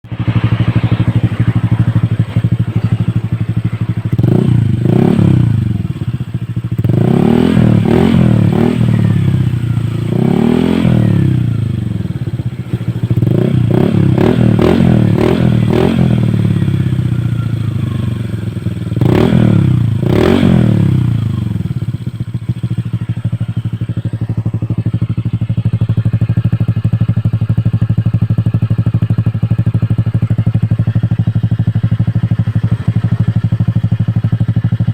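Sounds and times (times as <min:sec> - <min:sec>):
scooter engine revving and idling: 0:00.0 - 0:34.9.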